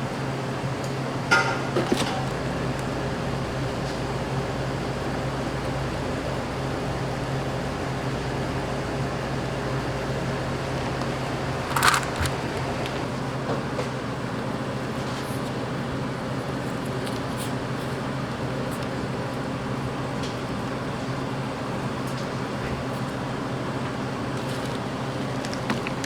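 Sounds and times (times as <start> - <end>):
kitchen fan humming: 0.0 - 26.0.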